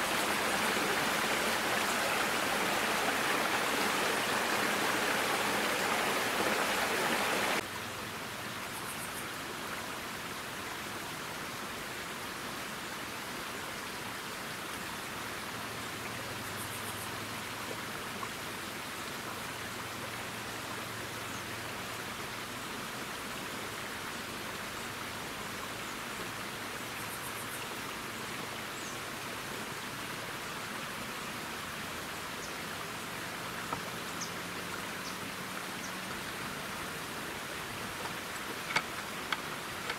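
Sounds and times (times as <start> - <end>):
rushing outdoor noise: 0.0 - 39.9.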